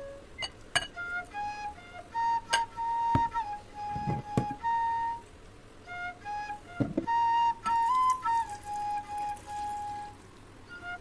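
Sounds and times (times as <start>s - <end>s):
solo flute melody: 0.0s - 11.0s.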